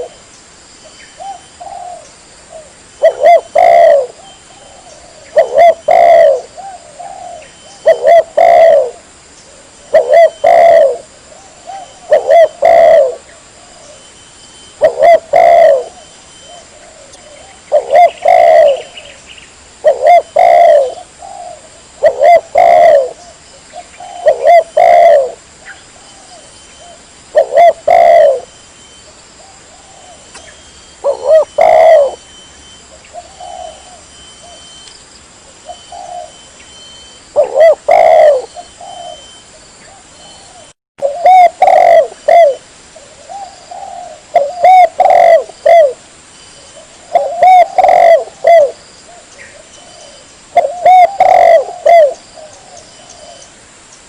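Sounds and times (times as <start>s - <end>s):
dove cooing: 0.0s - 0.2s, 1.2s - 19.2s, 19.8s - 34.8s, 35.5s - 46.0s, 46.6s - 53.5s.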